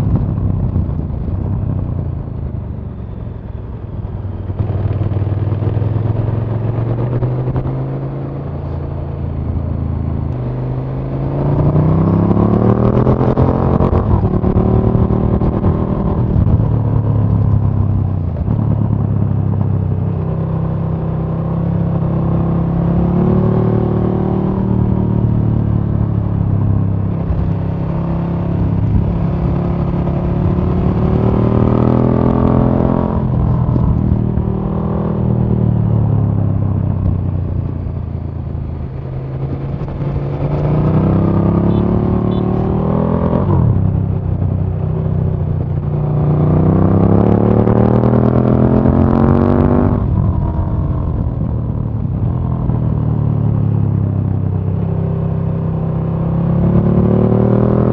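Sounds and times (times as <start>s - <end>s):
motorcycle engine revving: 4.0s - 57.9s.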